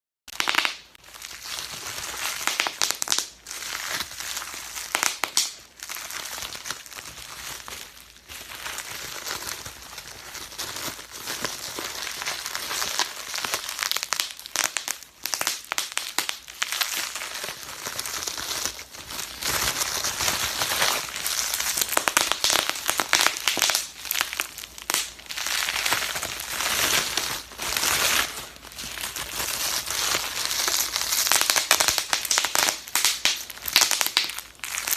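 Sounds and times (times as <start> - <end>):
bubble wrap popping: 0.3 - 34.9
plastic sheet crinkling: 0.3 - 34.9.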